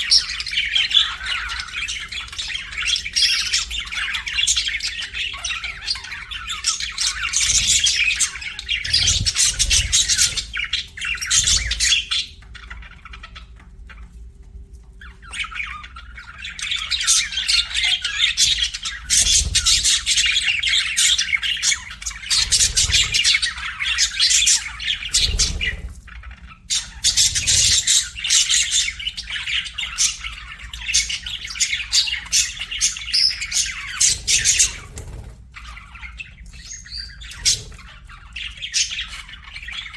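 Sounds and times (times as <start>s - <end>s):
budgerigar chirping and chattering: 0.0s - 13.6s, 15.3s - 39.9s.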